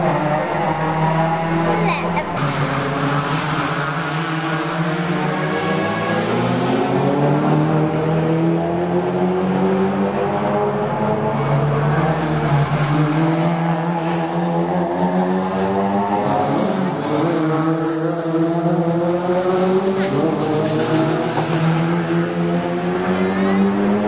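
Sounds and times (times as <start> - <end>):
race car engines accelerating: 0.0 - 24.0.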